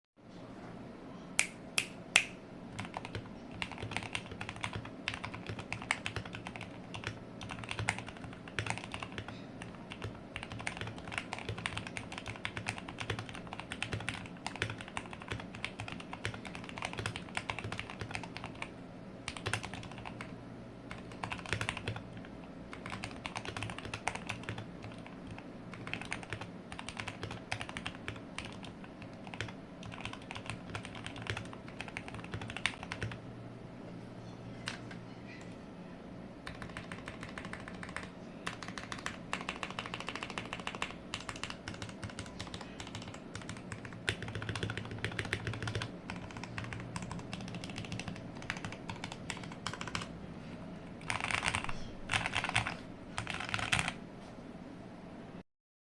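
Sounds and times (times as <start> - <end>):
mechanical keyboard typing: 2.7 - 20.3, 20.9 - 33.2, 34.6 - 35.5, 36.4 - 50.1, 51.0 - 54.0.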